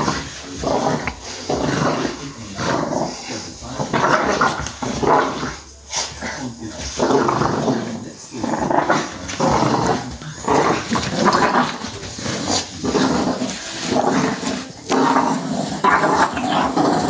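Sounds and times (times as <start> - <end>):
puppies growling: 0.0 - 17.0.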